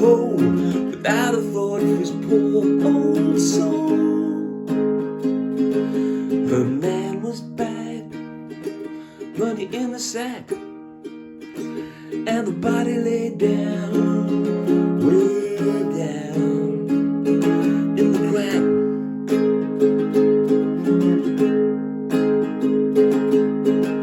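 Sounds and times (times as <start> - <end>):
held melody notes: 0.0 - 24.0
strummed string accompaniment: 0.0 - 24.0.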